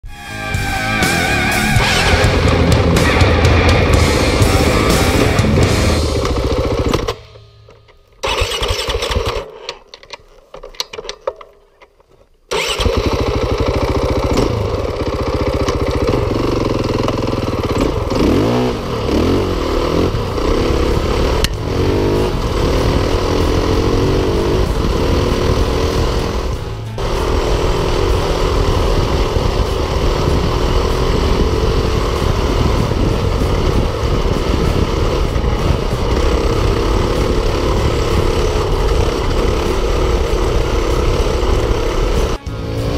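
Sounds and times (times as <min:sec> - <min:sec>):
dirt bike engine running: 0:00.6 - 0:09.4, 0:12.5 - 0:42.9.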